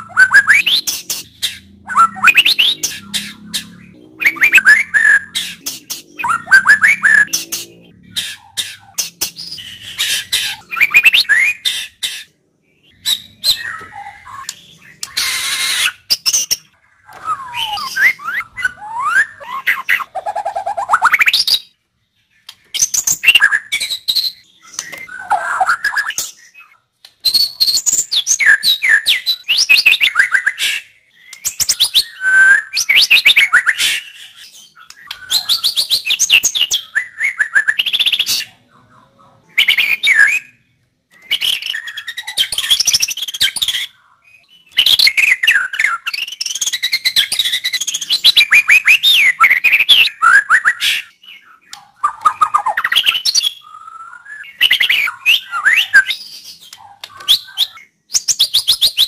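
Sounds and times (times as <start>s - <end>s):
bird singing whistles and trills: 0.0s - 21.8s, 22.7s - 38.5s, 39.5s - 59.0s.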